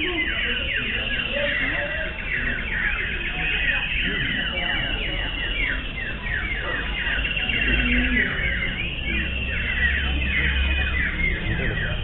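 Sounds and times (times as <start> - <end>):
birds whistling: 0.0 - 12.0.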